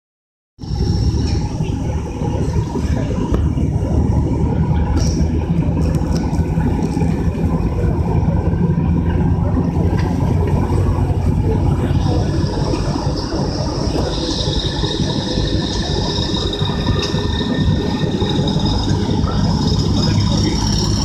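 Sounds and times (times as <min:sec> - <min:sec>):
forestry machine engine running: 0:00.6 - 0:21.0.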